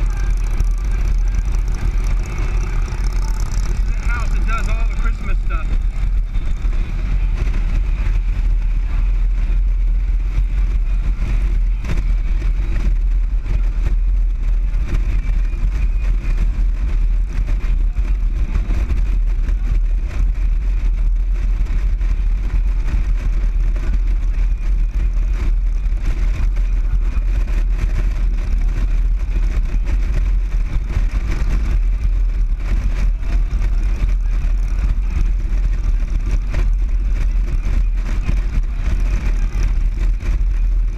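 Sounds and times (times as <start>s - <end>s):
motorcycle engine and wind rumble: 0.0s - 40.9s.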